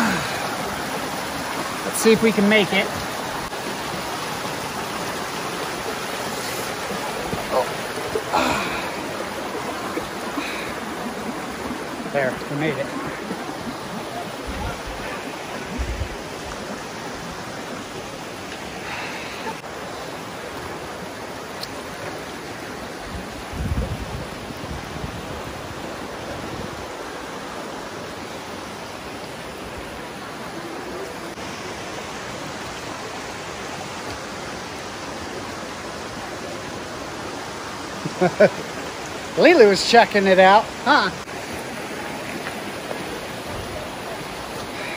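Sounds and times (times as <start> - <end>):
creek water rushing over rocks: 0.0 - 44.9.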